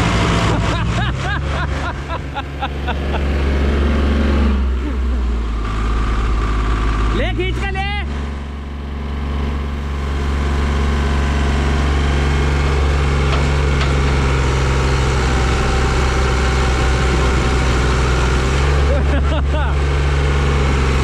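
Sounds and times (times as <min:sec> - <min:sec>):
tractor engine labouring: 0:00.0 - 0:21.0.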